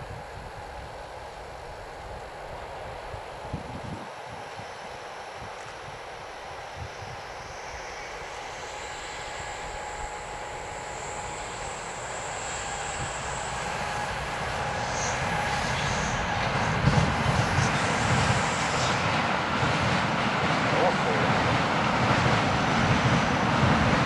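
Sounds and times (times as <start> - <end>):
freight train running noise: 0.0 - 24.0
thin steady whine: 0.0 - 24.0.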